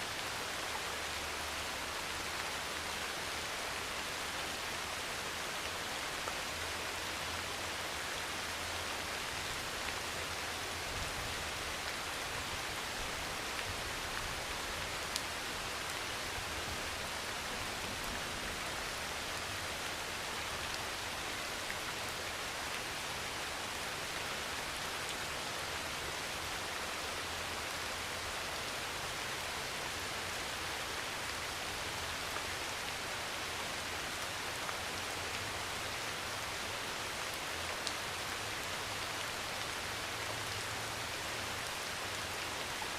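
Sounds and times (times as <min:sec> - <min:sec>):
heavy rain on a metal roof: 0:00.0 - 0:42.9.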